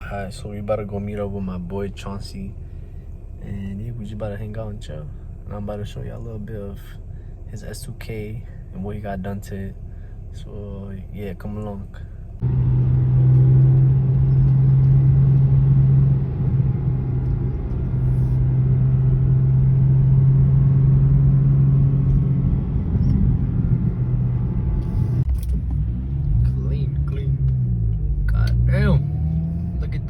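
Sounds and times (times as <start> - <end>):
car engine droning: 0.0 - 30.0
road rumble: 0.0 - 30.0.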